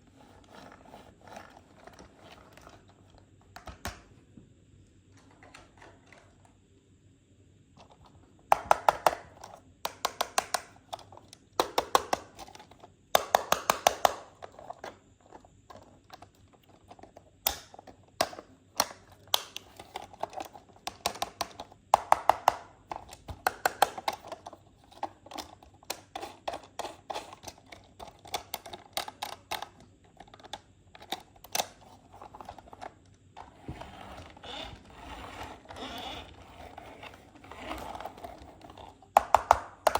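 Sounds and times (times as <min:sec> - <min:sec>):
plastic clicking and rattling: 0:05.2 - 0:06.6, 0:07.8 - 0:39.9.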